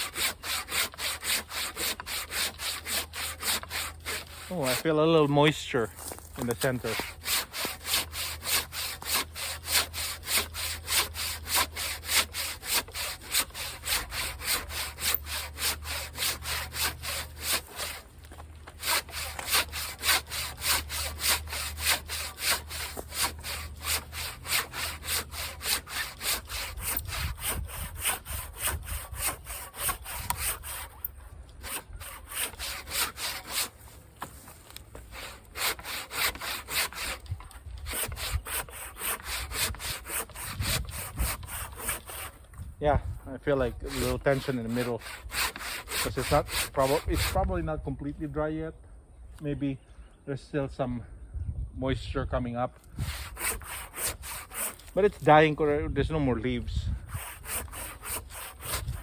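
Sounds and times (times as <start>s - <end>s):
hand saw rasping strokes: 0.0s - 48.4s, 52.8s - 59.0s.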